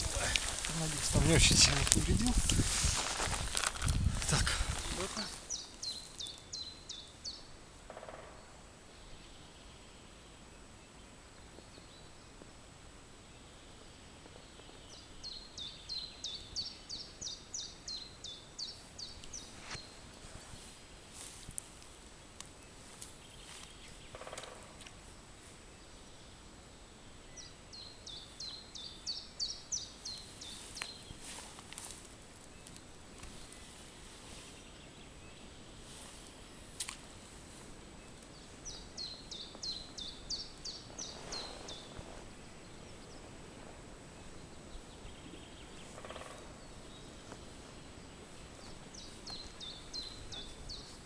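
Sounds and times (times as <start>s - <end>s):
songbird singing: 0.0s - 12.4s, 13.3s - 20.6s, 22.0s - 51.0s
faint outdoor hiss: 0.0s - 51.0s.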